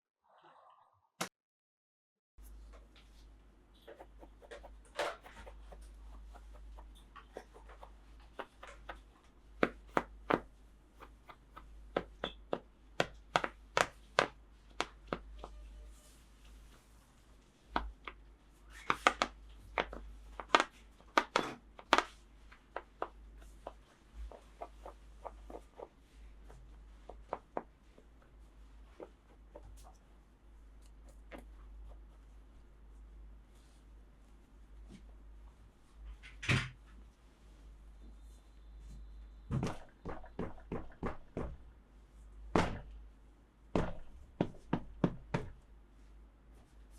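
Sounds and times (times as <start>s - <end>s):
faint low hum: 2.4s - 46.9s.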